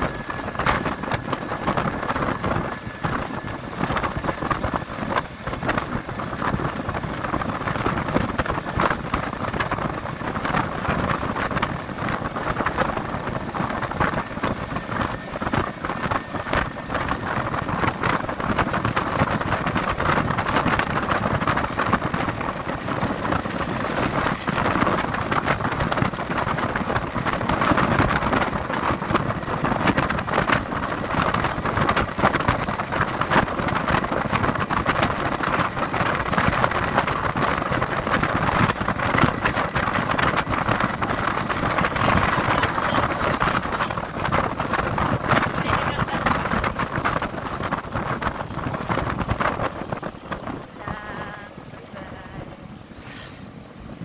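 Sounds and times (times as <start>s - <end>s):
crackling on microphone: 0.0s - 54.0s
road and wind rush from vehicle: 0.0s - 54.0s.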